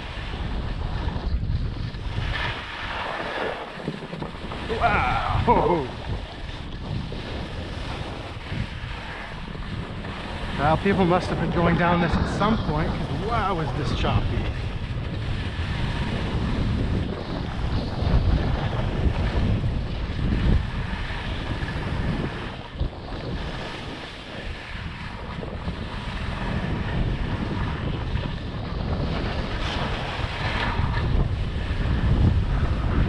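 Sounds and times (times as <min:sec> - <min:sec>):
skis scraping over snow: 0:00.0 - 0:33.0
wind rushing over microphone: 0:00.0 - 0:33.0.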